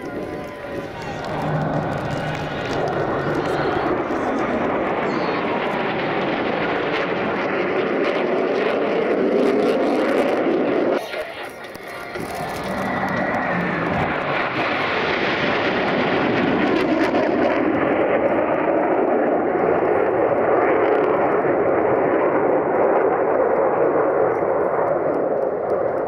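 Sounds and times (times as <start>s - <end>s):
jet engines flying past: 0.0s - 26.0s.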